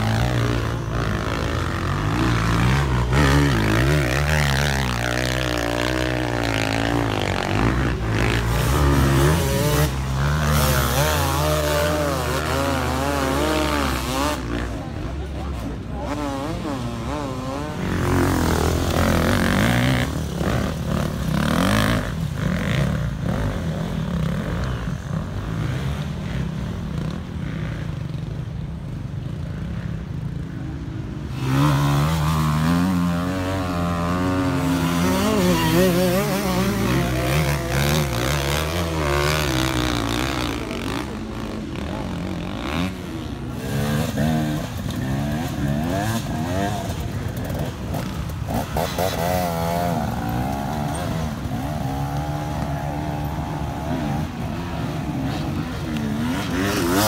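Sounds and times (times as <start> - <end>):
motorcycle engines revving: 0.0 - 57.0
nearer motorcycle revving: 0.0 - 57.0.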